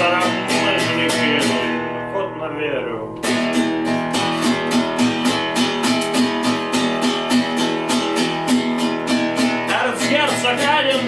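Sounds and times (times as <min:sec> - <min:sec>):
guitar strummed: 0:00.0 - 0:11.0.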